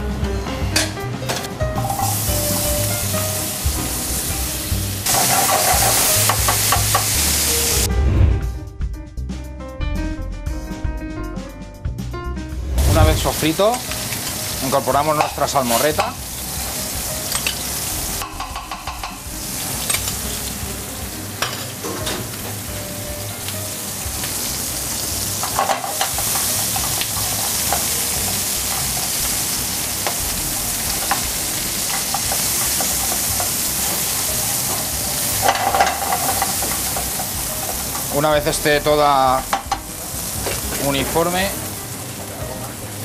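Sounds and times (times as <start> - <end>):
food sizzling in oil: 1.8 - 7.9, 12.6 - 43.0.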